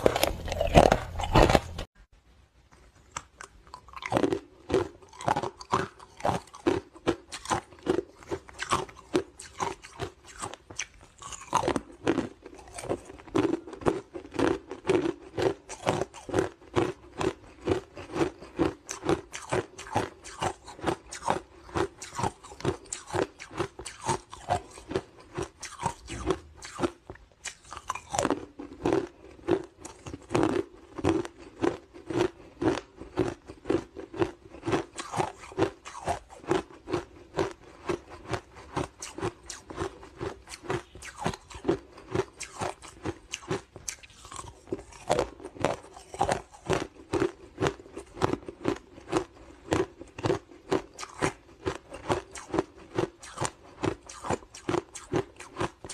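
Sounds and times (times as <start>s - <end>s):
ice cubes crunching while chewed: 0.0s - 1.9s, 3.1s - 55.9s.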